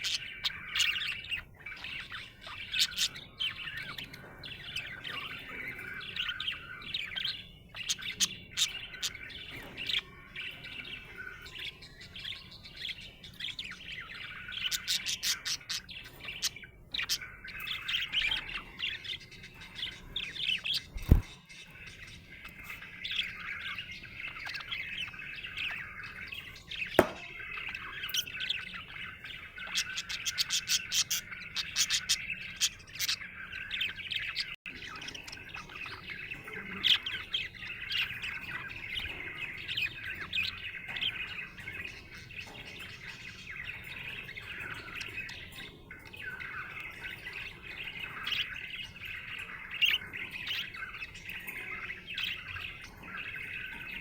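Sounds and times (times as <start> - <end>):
budgerigar chirping and warbling: 0.0 - 54.0.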